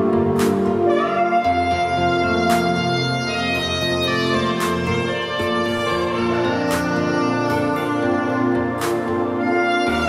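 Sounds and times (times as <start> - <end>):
low bass line: 0.0 - 10.0
soprano saxophone melody: 0.0 - 10.0.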